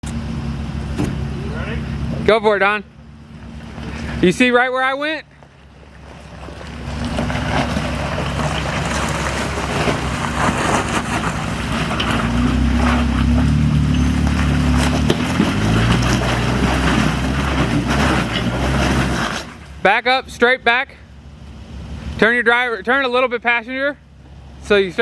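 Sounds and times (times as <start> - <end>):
car engine revving: 0.0 - 20.6.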